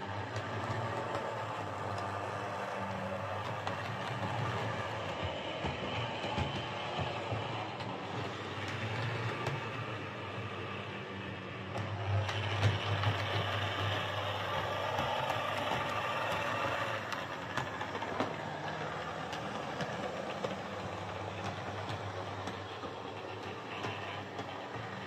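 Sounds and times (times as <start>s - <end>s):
model train motor whirring: 0.0s - 25.0s
wheels rolling on track: 0.0s - 25.0s.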